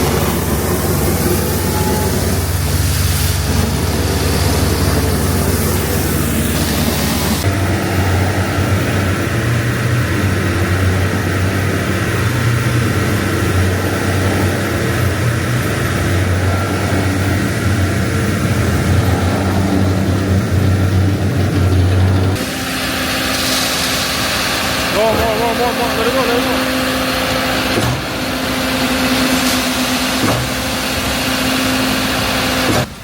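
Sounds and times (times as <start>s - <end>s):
heavy diesel engine drone: 0.0s - 33.0s.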